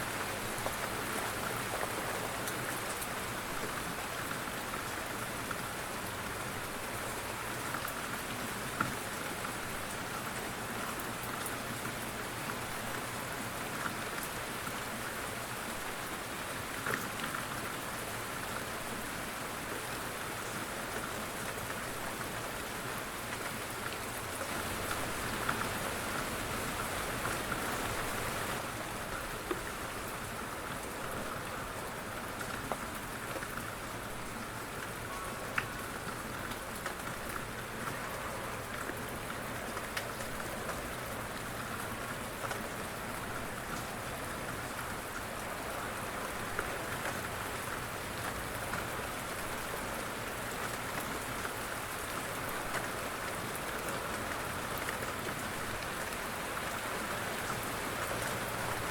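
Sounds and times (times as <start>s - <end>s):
light rain pattering: 0.0s - 58.9s.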